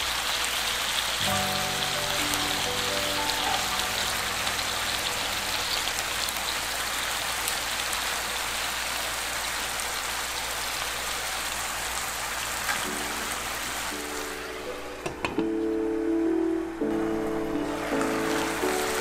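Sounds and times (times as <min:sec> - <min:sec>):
food sizzling in oil: 0:00.0 - 0:15.8.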